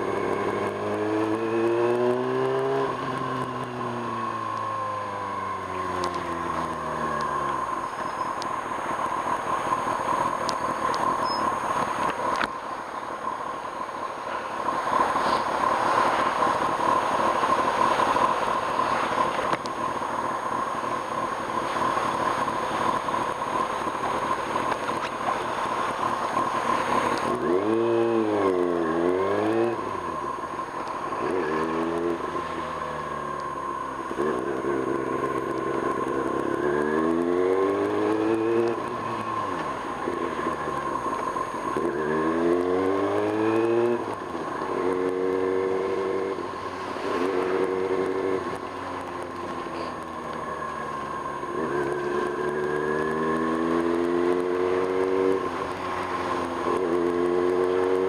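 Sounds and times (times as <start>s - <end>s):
motorcycle engine: 0.0s - 58.0s
wind and road noise: 0.0s - 58.0s.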